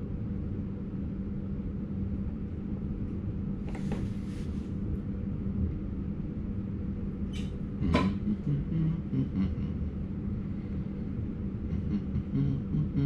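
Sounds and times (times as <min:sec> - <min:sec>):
train cab rumble and hum: 0:00.0 - 0:13.0.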